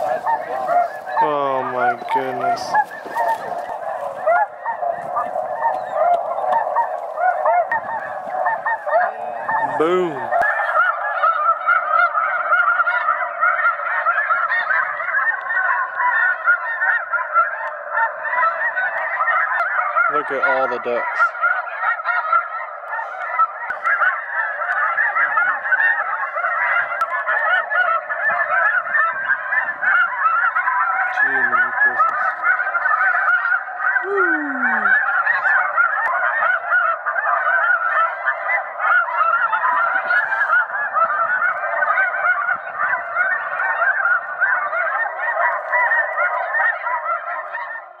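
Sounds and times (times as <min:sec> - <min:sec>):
flock of waterfowl calling: 0:00.0 - 0:48.0.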